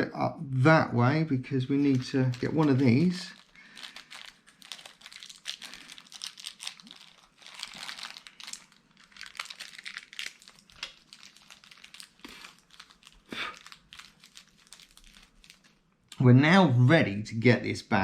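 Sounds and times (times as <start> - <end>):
plastic packaging crinkling: 1.7 - 16.2.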